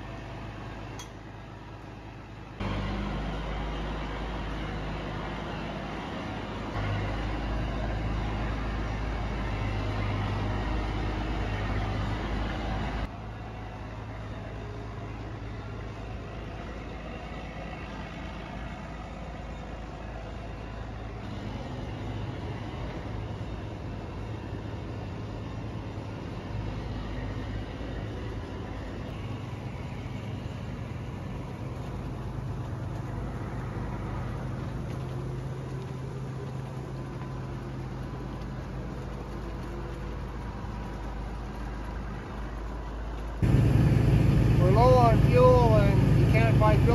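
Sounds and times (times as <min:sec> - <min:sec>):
combine harvester engine running: 0:00.0 - 0:46.9.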